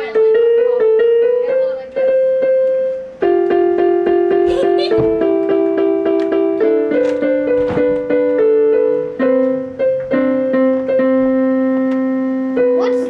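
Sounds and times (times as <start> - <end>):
electronic keyboard notes: 0.0 - 13.0.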